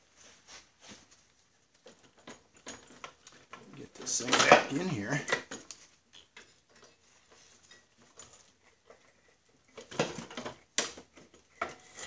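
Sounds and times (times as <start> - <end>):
metal parts clinking and scraping: 1.8 - 12.0.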